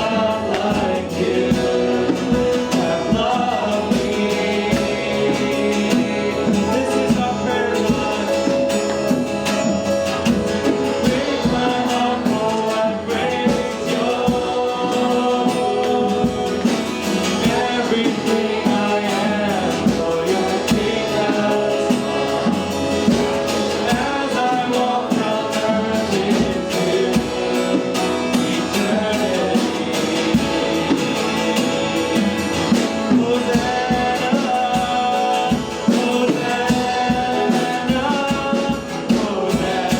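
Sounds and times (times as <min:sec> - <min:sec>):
band with guitar: 0:00.0 - 0:39.9
steady percussion beat: 0:00.0 - 0:39.9
voices singing worship song: 0:00.0 - 0:39.9.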